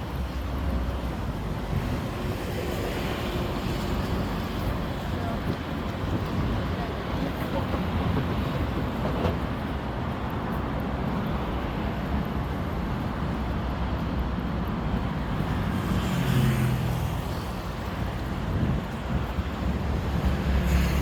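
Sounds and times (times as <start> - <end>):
passing vehicles hum and rumble: 0.0 - 21.0.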